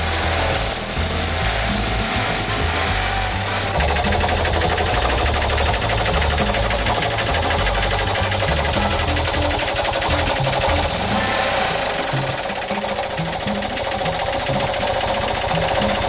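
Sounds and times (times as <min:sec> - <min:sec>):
car engine idling with clatter: 0:00.0 - 0:16.0.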